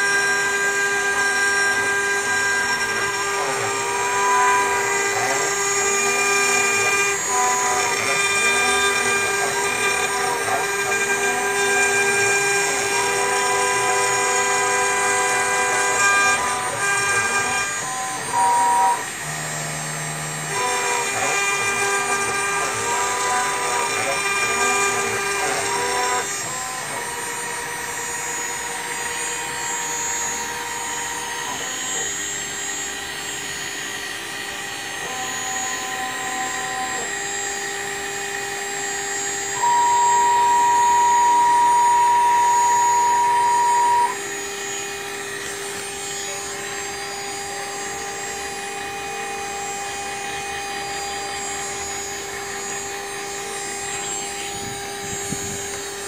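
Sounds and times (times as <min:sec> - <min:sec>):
router spindle whine: 0:00.0 - 0:56.0
stepper motor tones: 0:00.0 - 0:56.0.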